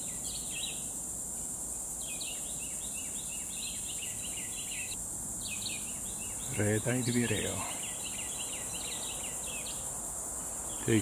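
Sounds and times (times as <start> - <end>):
songbird singing short phrases: 0.0 - 1.0, 2.0 - 11.0
high drone of insects: 0.0 - 11.0.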